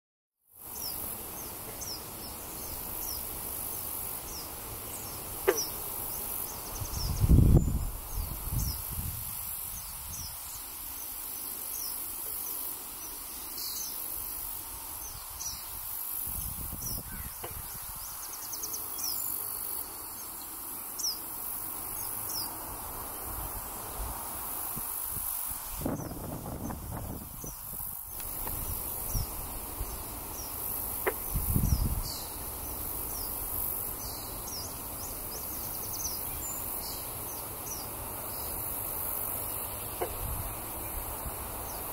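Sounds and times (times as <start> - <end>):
steady high hiss: 0.5 - 41.9.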